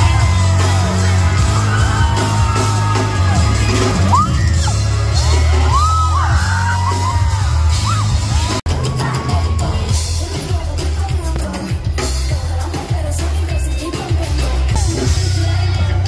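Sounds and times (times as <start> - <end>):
crowd screaming and whooping: 0.0 - 16.0
live concert music with heavy bass: 0.0 - 16.0.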